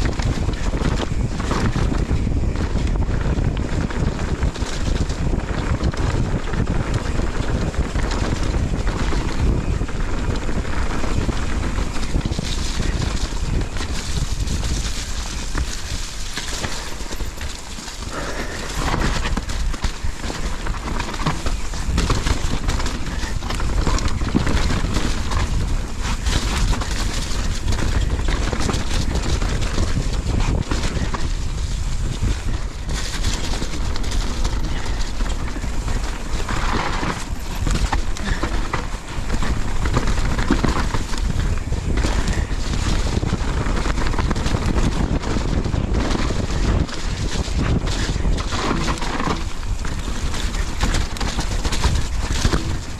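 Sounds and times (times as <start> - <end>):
bike rattling over rough ground: 0.0 - 52.9
bike tyre noise on dirt: 0.0 - 52.9
wind rushing over microphone: 0.0 - 52.9.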